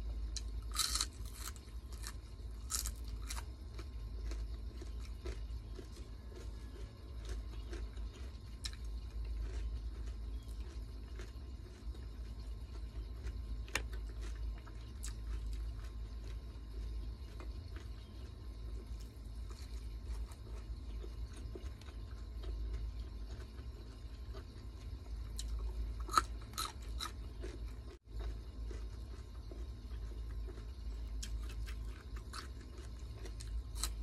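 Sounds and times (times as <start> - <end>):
chewing with crisp crunches: 0.0 - 34.0
low steady hum: 0.0 - 34.0.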